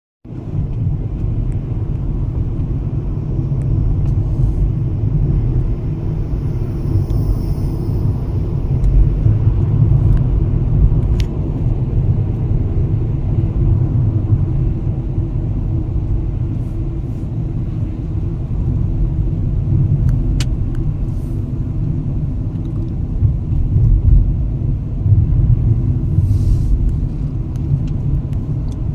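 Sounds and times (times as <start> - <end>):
steady low rumble: 0.2 - 28.9.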